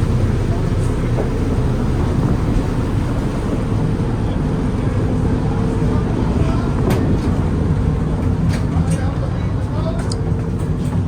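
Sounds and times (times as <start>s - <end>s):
diesel engines low rumble: 0.0s - 11.0s.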